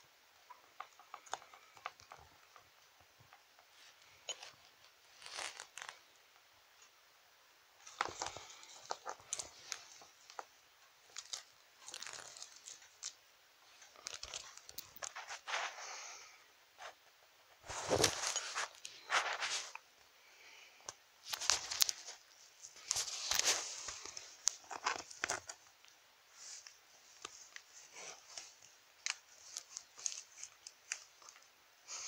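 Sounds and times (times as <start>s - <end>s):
rustling and crinkling: 0.3s - 7.0s, 7.7s - 32.0s.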